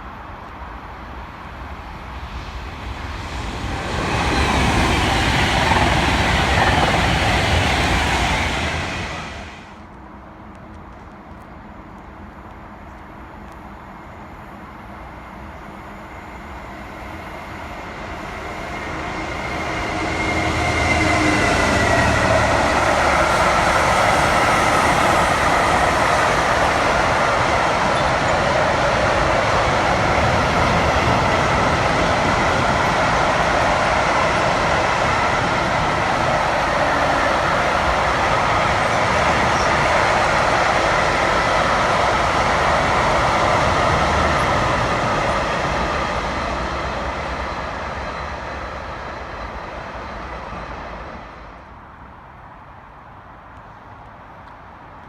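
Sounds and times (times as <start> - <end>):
train passing: 0.0 - 55.0.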